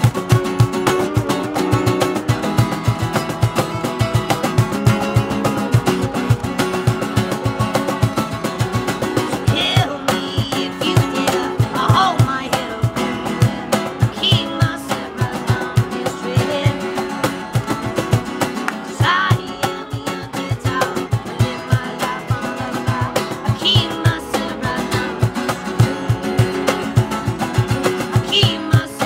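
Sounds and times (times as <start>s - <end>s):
strummed guitar: 0.0s - 29.0s.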